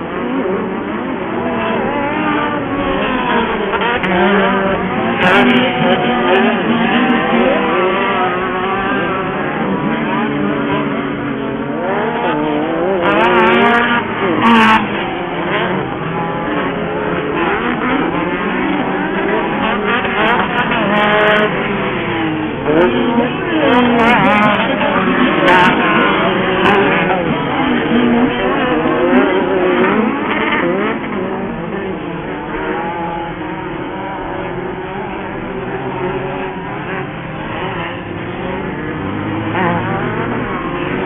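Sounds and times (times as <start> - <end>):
buggy engines revving: 0.0 - 41.0.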